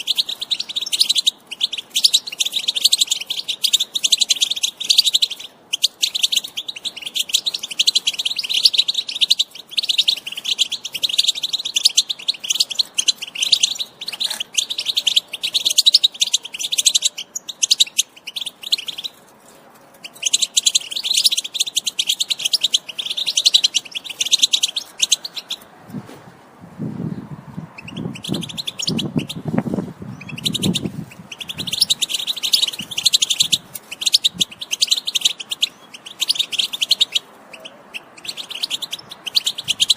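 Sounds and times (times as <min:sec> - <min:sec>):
goldfinch twittering song: 0:00.0 - 0:19.2, 0:20.0 - 0:25.7, 0:27.8 - 0:39.9.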